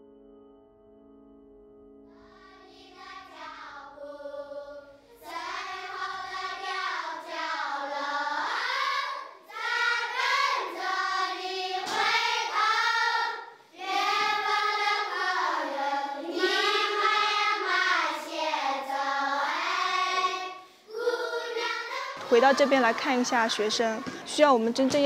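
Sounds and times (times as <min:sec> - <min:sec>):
children singing: 0:02.2 - 0:24.4.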